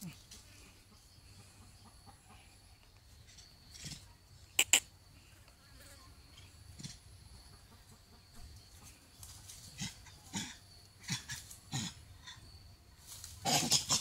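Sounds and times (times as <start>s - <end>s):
faint insect buzz: 0.0s - 14.0s.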